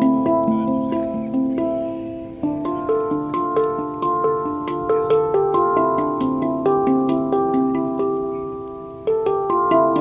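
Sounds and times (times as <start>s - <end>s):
handpan notes ringing: 0.0s - 10.0s.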